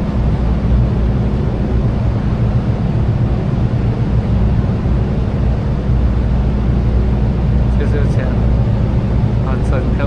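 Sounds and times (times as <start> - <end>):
boat engine droning: 0.0 - 10.0
wind buffeting microphone: 0.0 - 10.0.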